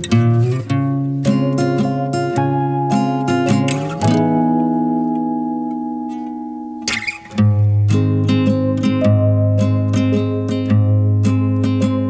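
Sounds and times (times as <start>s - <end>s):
plucked-string chord ringing: 0.9s - 12.0s.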